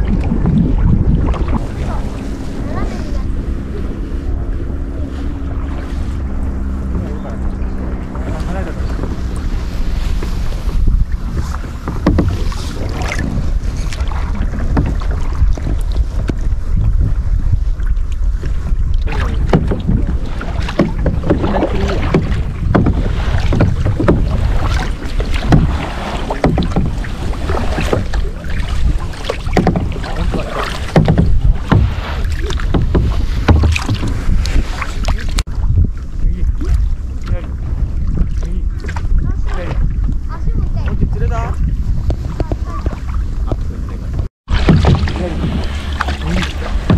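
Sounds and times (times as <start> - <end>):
paddle splashing in water: 0.0 - 46.9
wind rumbling on microphone: 0.0 - 46.9.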